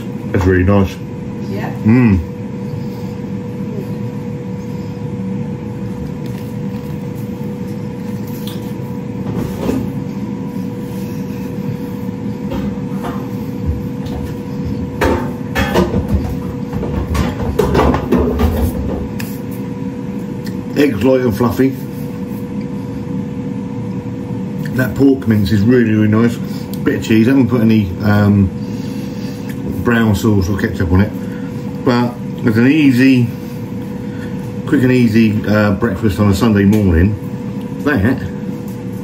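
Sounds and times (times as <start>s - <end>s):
kitchen appliance humming: 0.0s - 39.0s.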